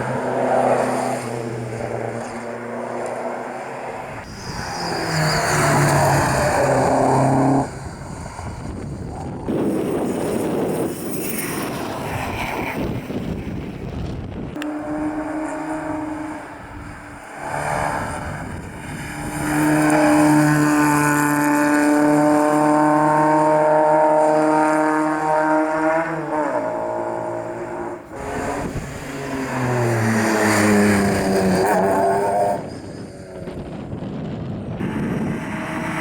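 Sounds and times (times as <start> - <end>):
rally car engine at high revs: 0.0 - 12.9, 14.6 - 36.0
engine passing with falling pitch: 0.0 - 13.6, 14.6 - 36.0.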